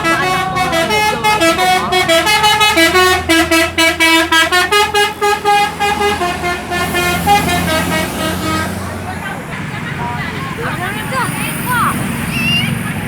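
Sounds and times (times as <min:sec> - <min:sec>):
bus melody horn: 0:00.0 - 0:11.3
low engine hum: 0:00.0 - 0:13.0.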